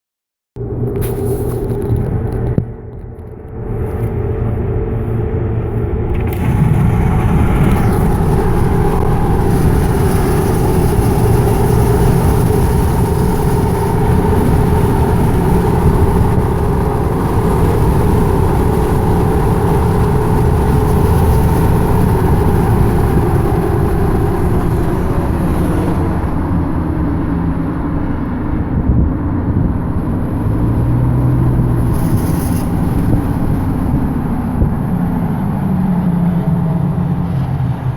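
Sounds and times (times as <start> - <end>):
engine and road noise: 0.6 - 37.9.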